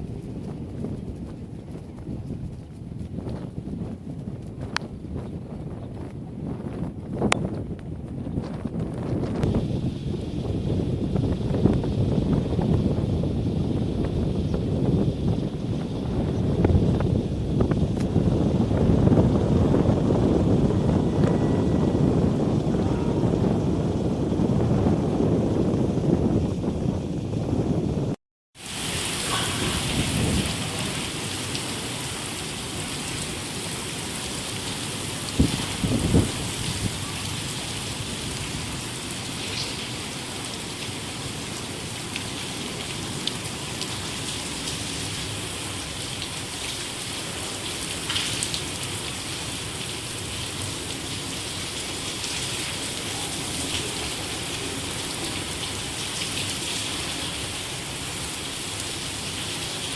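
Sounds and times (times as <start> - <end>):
heavy rain falling: 6.1 - 59.9.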